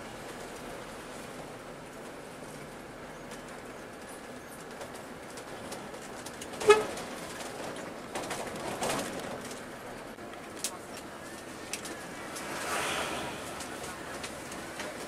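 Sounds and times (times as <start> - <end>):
coach engine and road noise: 0.0 - 15.0.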